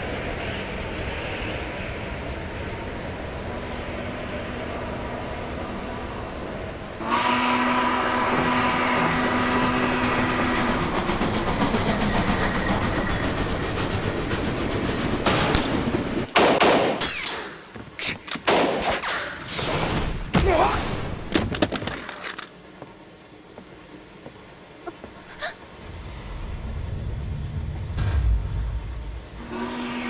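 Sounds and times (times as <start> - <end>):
train rumbling: 0.0 - 16.4, 21.6 - 30.0.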